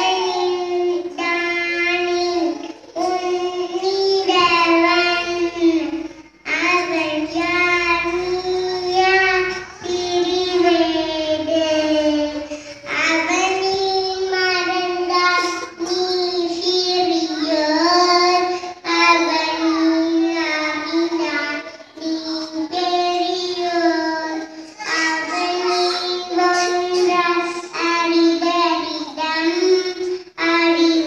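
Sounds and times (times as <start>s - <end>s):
girl singing into a microphone: 0.0s - 31.0s.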